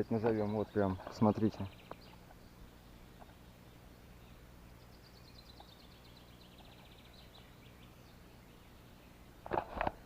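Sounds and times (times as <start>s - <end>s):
faint bird song: 0.0s - 10.0s.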